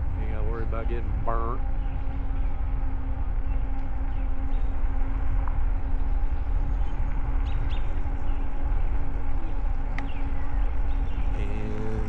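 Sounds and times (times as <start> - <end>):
steady low hum: 0.0 - 12.0
wind rumbling on microphone: 0.0 - 12.0.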